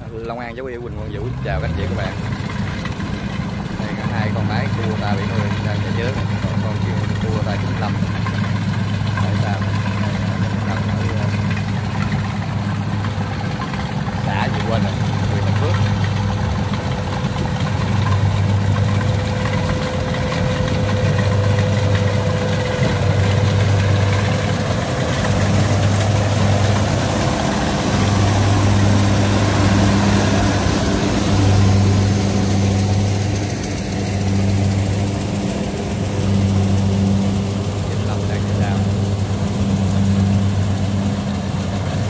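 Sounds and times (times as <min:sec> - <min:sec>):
diesel engine humming: 0:00.0 - 0:42.0.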